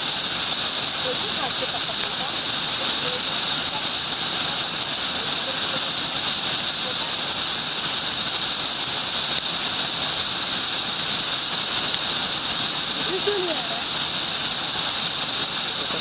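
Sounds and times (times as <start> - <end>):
high-pitched whine: 0.0 - 16.0
waterfall rushing: 0.0 - 16.0.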